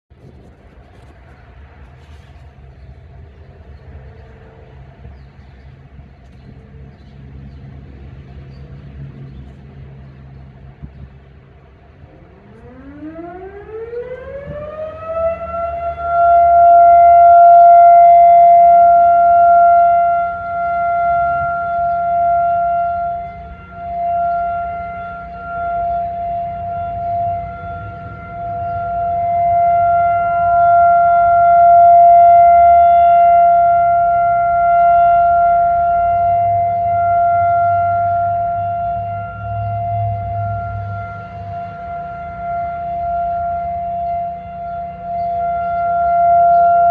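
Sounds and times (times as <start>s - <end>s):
warning siren wailing: 0.2s - 46.9s.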